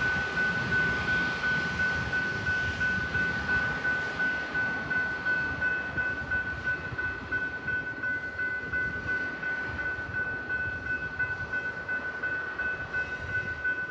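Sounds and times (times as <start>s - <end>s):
steady high-pitched tone: 0.0s - 13.9s
train rumbling along rails: 0.0s - 13.9s.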